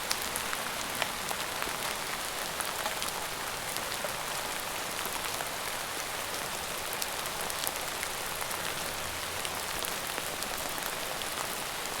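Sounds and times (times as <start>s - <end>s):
steady rain on a surface: 0.0s - 12.0s.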